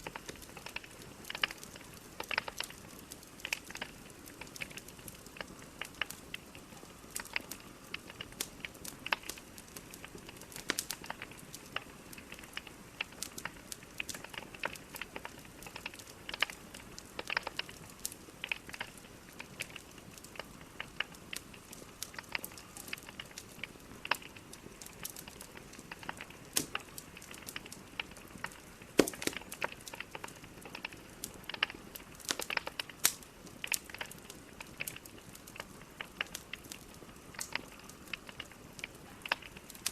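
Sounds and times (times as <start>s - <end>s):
fire crackling and popping: 0.0s - 39.9s
logs burning with soft hiss: 0.0s - 39.9s.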